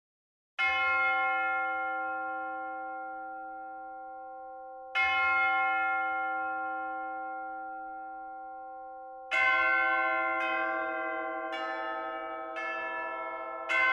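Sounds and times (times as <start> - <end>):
church bell tolling: 0.6 - 13.9.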